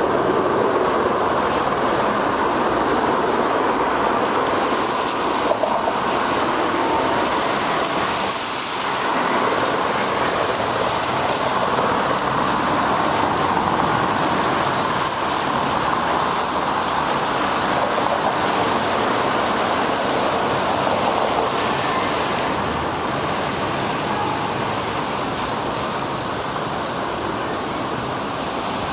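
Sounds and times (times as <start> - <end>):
tyres hissing on wet pavement: 0.0 - 28.9.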